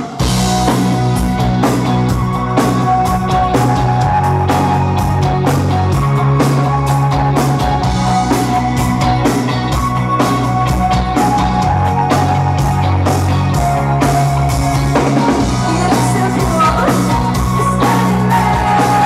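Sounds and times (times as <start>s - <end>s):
drum kit steady beat: 0.0s - 19.0s
live rock band playing: 0.0s - 19.0s.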